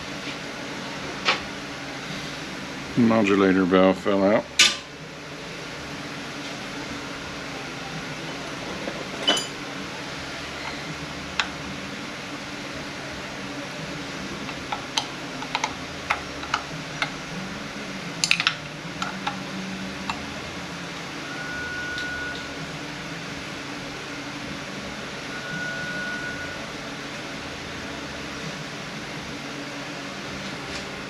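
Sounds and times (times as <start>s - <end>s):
steady shop hum: 0.0s - 31.0s.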